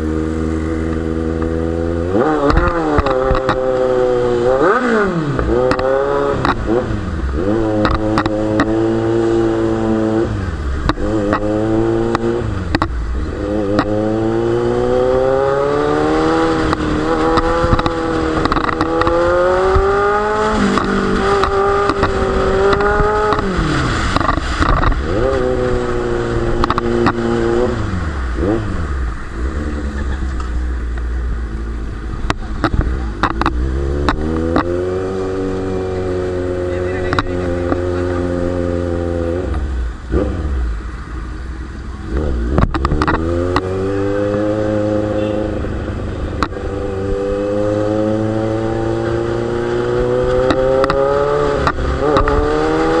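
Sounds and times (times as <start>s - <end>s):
exhaust cracks: 0.0s - 53.0s
motorcycle engine accelerating: 0.0s - 53.0s.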